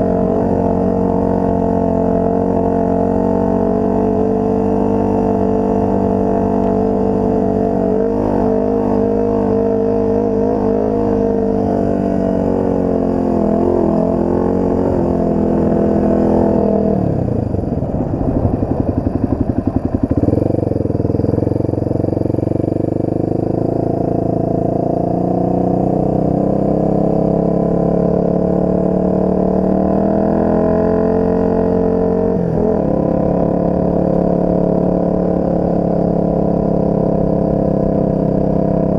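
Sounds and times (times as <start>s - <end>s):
off-road vehicle engine droning: 0.0s - 38.9s.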